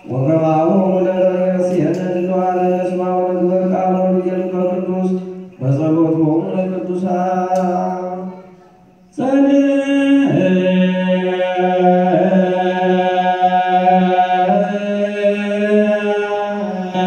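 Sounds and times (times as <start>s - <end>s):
liturgical chant voices: 0.0s - 17.0s.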